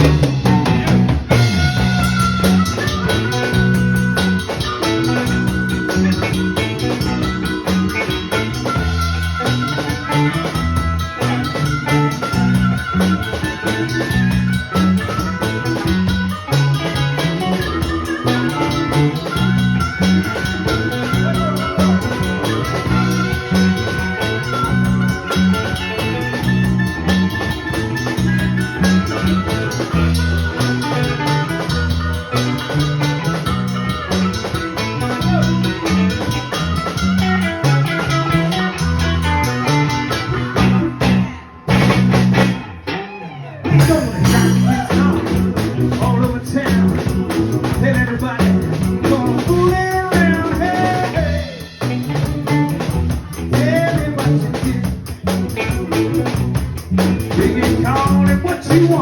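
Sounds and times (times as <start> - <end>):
live blues band playing: 0.0 - 59.0.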